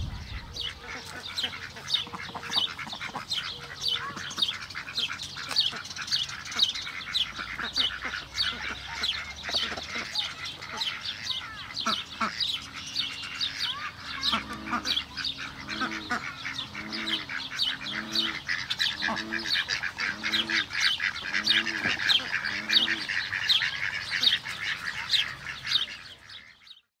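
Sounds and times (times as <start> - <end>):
high chirping of birds: 0.0 - 26.9
duck quacking: 0.1 - 26.6.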